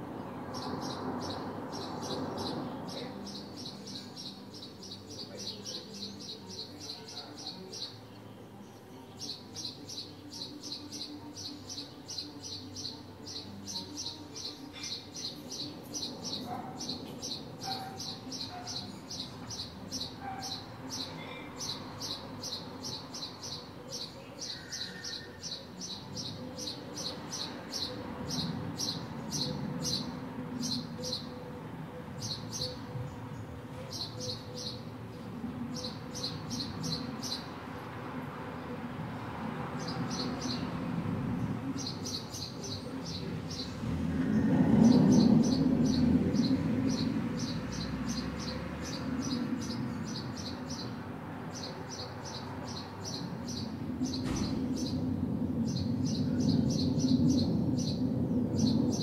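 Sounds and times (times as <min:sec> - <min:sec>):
low street hum: 0:00.0 - 0:59.0.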